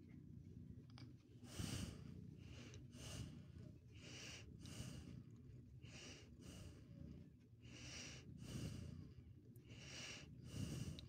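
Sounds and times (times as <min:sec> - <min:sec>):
faint low rumble: 0:00.0 - 0:11.0
slow steady breathing: 0:01.3 - 0:11.0.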